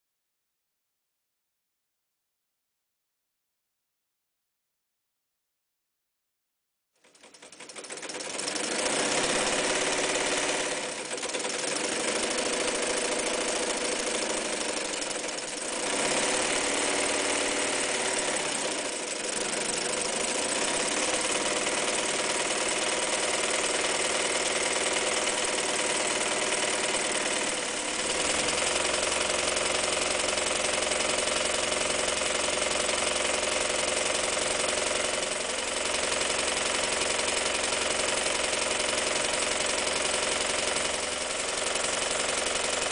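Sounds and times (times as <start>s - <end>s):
electric sewing machine running: 7.0s - 42.9s.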